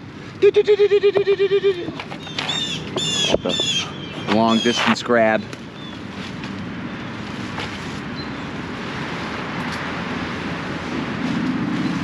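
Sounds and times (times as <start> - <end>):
highway traffic rushing: 0.0 - 12.0.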